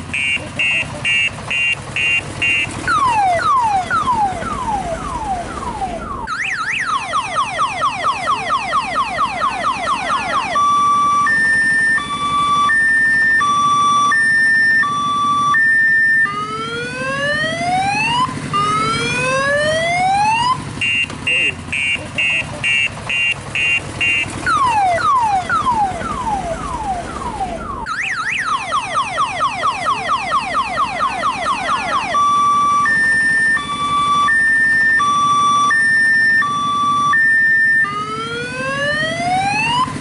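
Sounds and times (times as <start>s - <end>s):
electronic car alarm siren: 0.1s - 40.0s.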